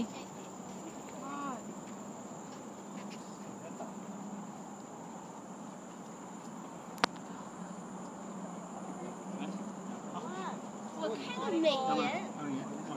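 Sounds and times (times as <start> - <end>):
crickets and insects chirping: 0.0 - 12.9.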